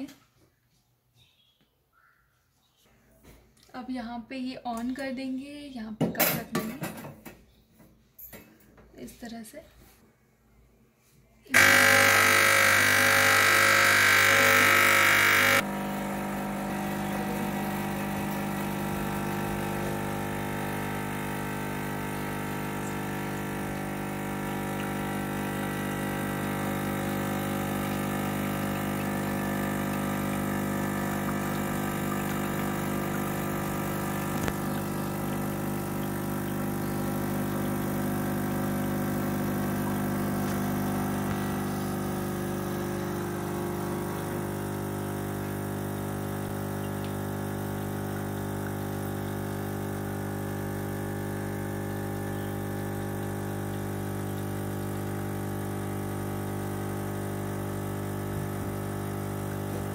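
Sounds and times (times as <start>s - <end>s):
espresso machine pump humming: 11.5s - 59.9s.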